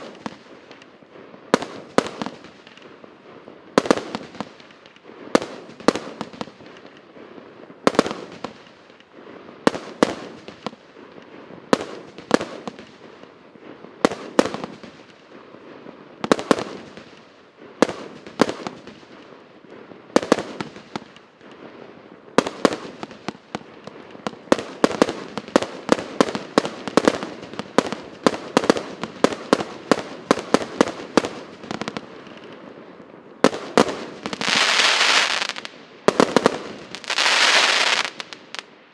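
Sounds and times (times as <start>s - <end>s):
firework bangs: 0.0s - 38.8s
firework crackling hiss: 0.0s - 38.9s.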